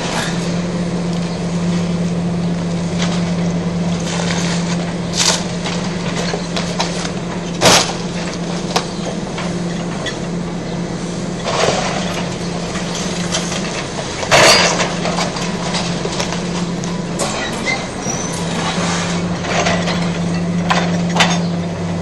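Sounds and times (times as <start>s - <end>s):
excavator diesel engine: 0.0s - 22.0s.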